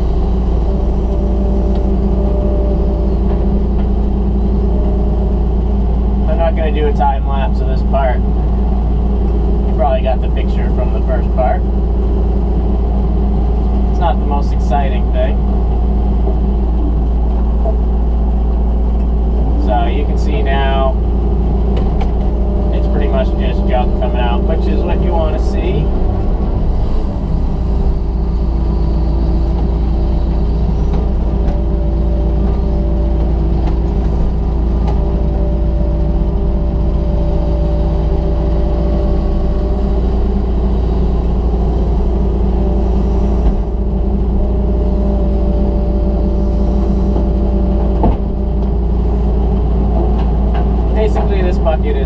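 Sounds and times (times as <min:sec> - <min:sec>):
diesel engine running: 0:00.0 - 0:52.0
hydraulic whine: 0:00.0 - 0:52.0.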